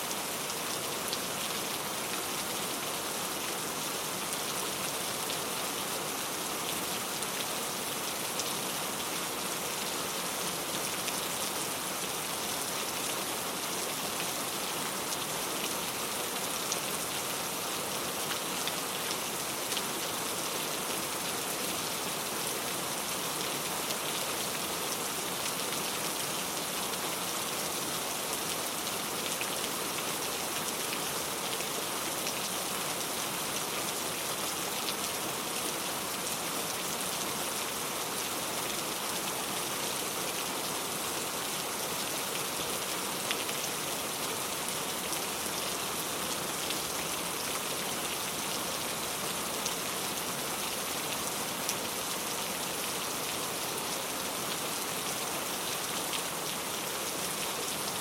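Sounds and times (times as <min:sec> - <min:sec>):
steady rain on a surface: 0:00.0 - 0:58.0.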